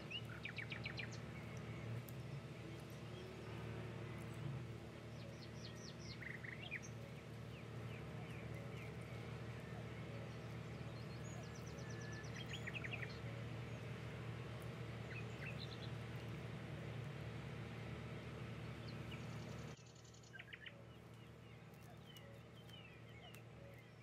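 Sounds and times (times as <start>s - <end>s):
birds chirping: 0.0s - 24.0s
steady low hum: 0.0s - 24.0s.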